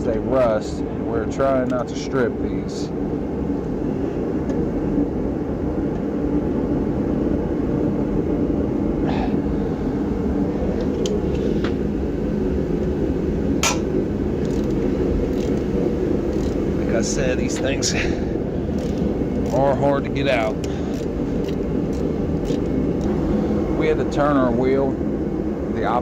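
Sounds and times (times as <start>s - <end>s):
steady low drone: 0.0s - 26.0s.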